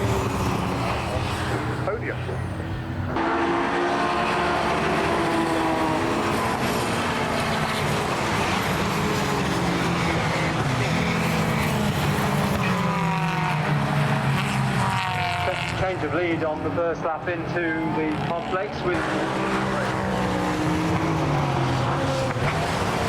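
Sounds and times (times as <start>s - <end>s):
racing cars passing at full throttle: 0.0s - 23.0s.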